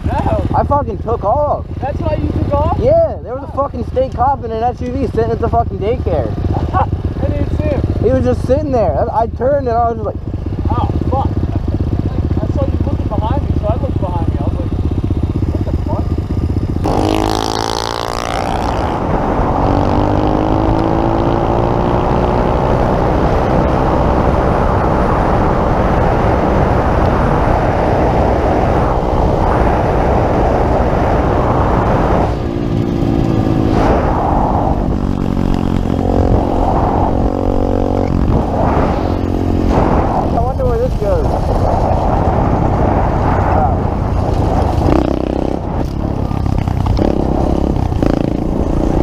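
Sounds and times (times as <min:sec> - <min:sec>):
motorbike engine running hard: 0:00.0 - 0:49.0
wind noise: 0:00.0 - 0:49.0.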